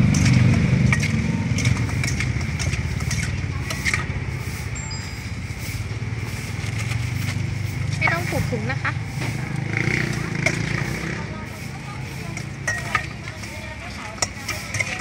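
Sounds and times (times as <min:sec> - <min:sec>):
metal ladle scraping a bowl: 0:00.0 - 0:15.0
vehicle engine rumbling: 0:00.0 - 0:15.0.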